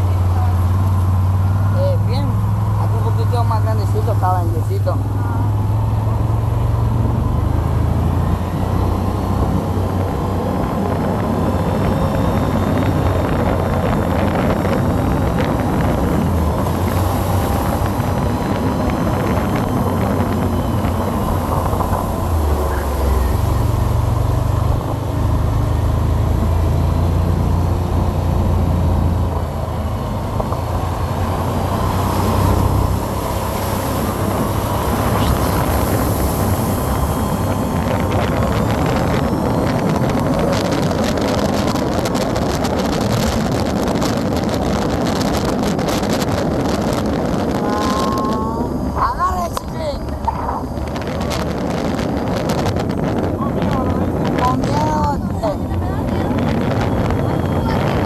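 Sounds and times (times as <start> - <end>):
quad bike engine drone: 0.0 - 58.0.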